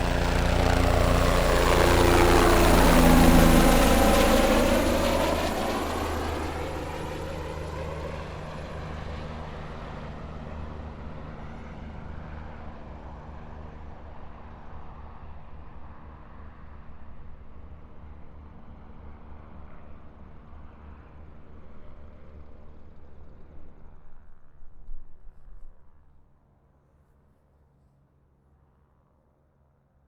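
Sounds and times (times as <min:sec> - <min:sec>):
helicopter flying past: 0:00.0 - 0:25.1.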